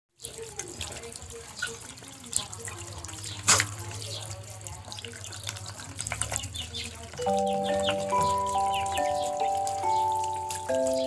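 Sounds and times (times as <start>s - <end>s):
water trickling and splashing: 0.1s - 11.0s.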